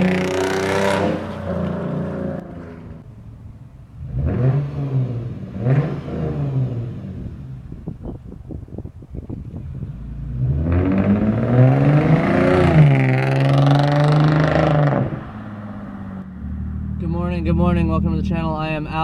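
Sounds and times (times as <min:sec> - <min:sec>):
car engine revving: 0:00.0 - 0:08.0, 0:09.3 - 0:19.0.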